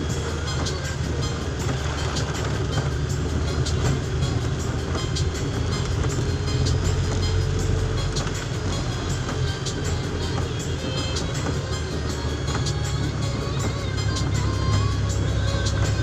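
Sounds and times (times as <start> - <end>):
vehicle driving rumble: 0.0 - 16.0
rain ticking on car body: 0.1 - 14.4.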